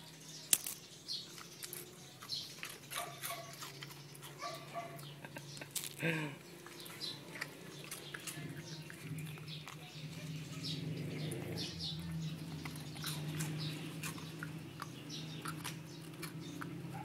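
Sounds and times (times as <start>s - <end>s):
dog crunching a cracker: 0.4s - 17.0s.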